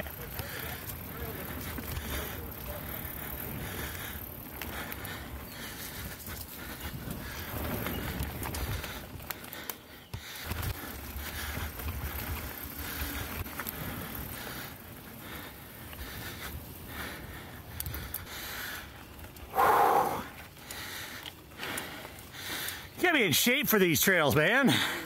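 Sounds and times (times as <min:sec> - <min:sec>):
bike clicks and rattles: 0:00.0 - 0:19.5, 0:20.3 - 0:23.4
bike tyres rolling over dirt: 0:00.0 - 0:25.0.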